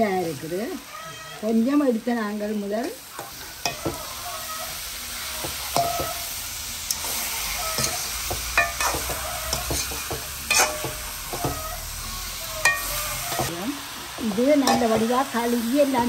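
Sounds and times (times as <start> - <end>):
light sizzle from pan: 0.0 - 16.0.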